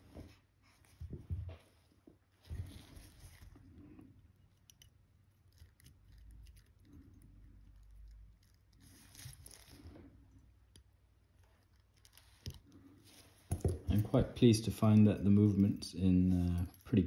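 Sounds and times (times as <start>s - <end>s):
soft rustling: 0.0s - 4.2s, 6.2s - 10.5s, 11.3s - 17.0s.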